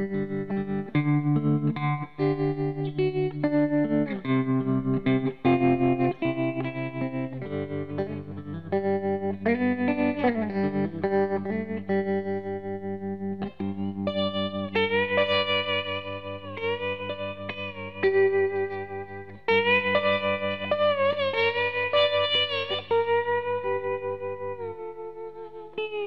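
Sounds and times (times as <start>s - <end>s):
solo guitar melody: 0.0s - 26.0s.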